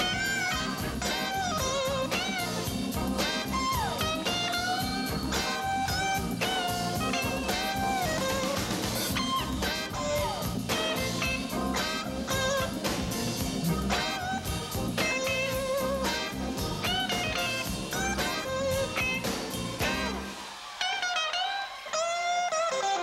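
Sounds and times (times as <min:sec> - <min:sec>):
bass line: 0:00.0 - 0:20.3
instrumental music with beat: 0:00.0 - 0:23.0
sliding lead melody: 0:00.0 - 0:23.0.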